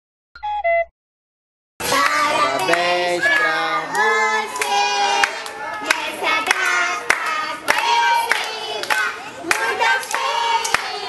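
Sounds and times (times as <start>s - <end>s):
young children singing: 1.8s - 11.0s
hand claps: 1.9s - 11.0s.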